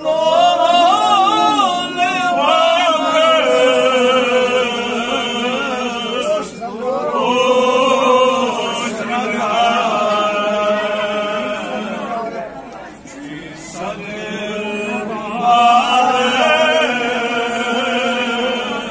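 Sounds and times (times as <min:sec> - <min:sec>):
man chanting a devotional hymn: 0:00.0 - 0:12.5, 0:13.2 - 0:18.9.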